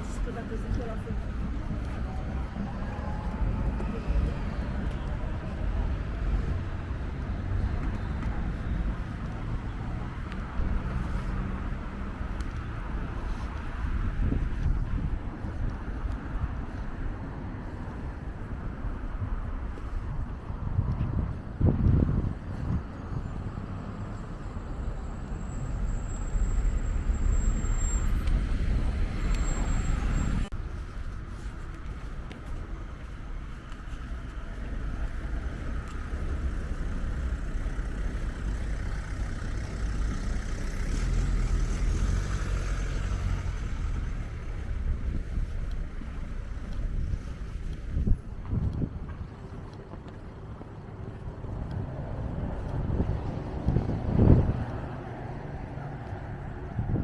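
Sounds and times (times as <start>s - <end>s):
road traffic: 0.0s - 57.0s
wind buffeting microphone: 0.0s - 57.0s.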